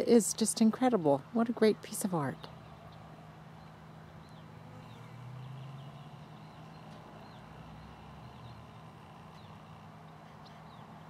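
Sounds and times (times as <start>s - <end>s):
steady low hum: 0.0s - 11.0s
small birds chirping: 2.0s - 11.0s.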